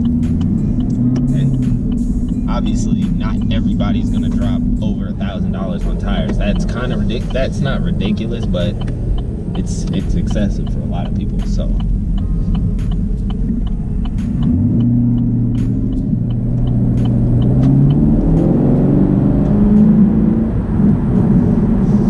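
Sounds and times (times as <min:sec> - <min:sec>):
light regular ticking: 0:00.0 - 0:20.0
car engine accelerating: 0:00.0 - 0:22.0.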